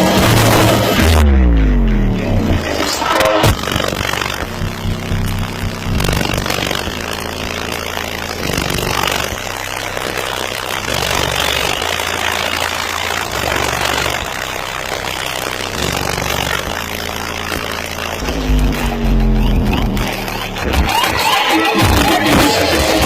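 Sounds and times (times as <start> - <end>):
deep subwoofer bass notes: 0.0 - 23.0
harsh noisy layer: 0.0 - 23.0.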